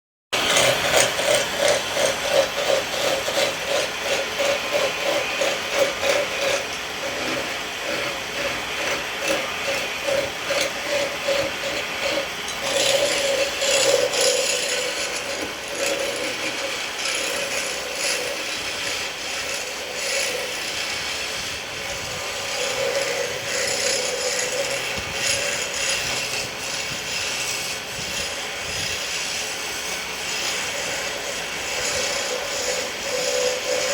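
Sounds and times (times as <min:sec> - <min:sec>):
hand tool scraping wood: 0:00.4 - 0:33.9.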